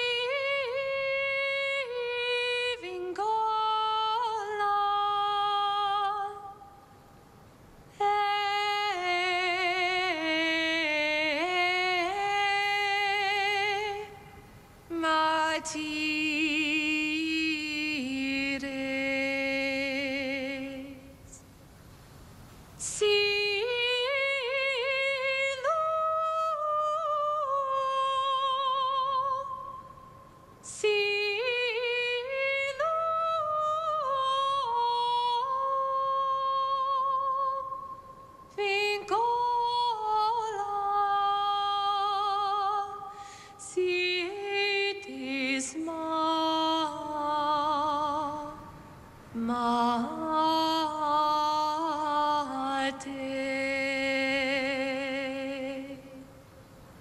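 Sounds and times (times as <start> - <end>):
woman singing mournful melody: 0.0 - 7.2, 7.8 - 21.5, 22.8 - 56.5.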